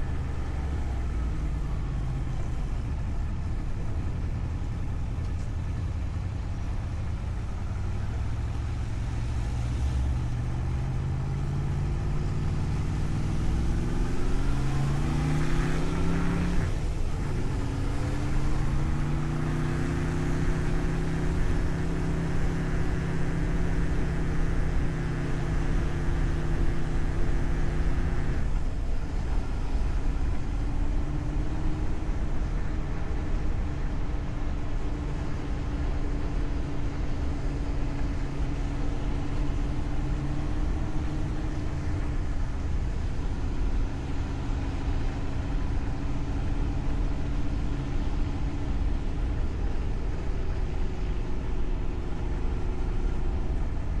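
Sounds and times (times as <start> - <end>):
constant low rumble: 0.0 - 54.0
vehicle engine revving: 0.0 - 54.0.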